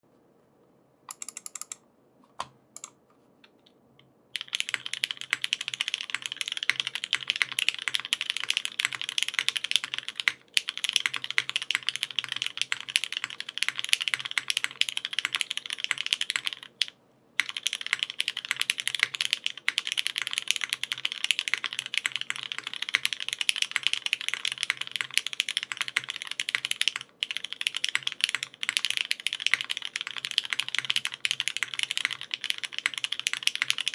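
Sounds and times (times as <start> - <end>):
mechanical keyboard typing: 1.1 - 1.8, 2.4 - 3.0, 4.4 - 33.9.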